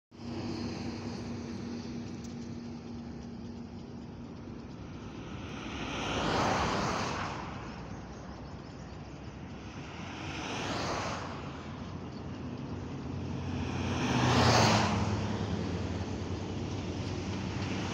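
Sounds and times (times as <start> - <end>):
steady traffic hum: 0.1 - 17.9
vehicles whooshing past: 0.1 - 17.9.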